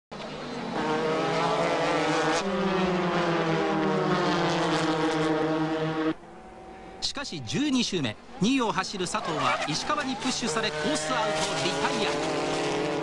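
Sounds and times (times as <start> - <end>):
race car engine at high revs: 0.1 - 6.8, 9.2 - 13.0.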